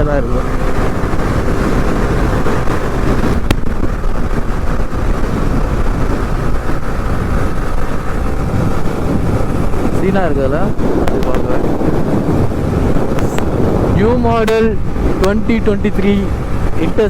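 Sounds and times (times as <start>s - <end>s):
motorcycle engine rumble: 0.0s - 17.0s
wind rush: 0.0s - 17.0s.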